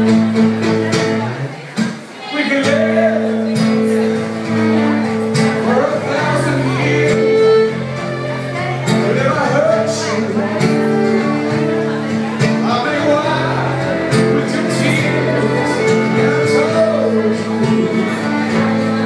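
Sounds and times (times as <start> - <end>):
acoustic guitar playing: 0.0 - 19.0
person singing: 2.2 - 19.0.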